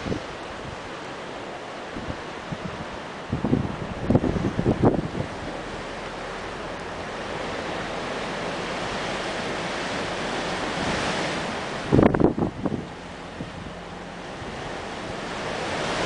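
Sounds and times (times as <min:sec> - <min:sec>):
strong wind rushing: 0:00.0 - 0:01.0, 0:01.9 - 0:16.0
wind buffeting microphone: 0:00.0 - 0:16.0.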